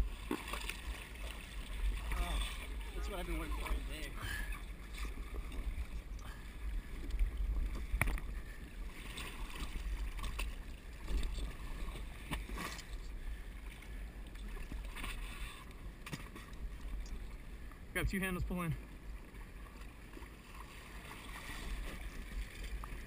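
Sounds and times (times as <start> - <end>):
water sloshing and splashing: 0.0 - 17.9, 18.6 - 23.0.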